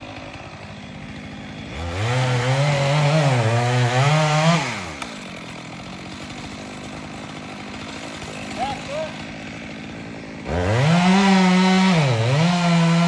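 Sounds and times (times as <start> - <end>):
chainsaw idling and revving: 0.0 - 13.0.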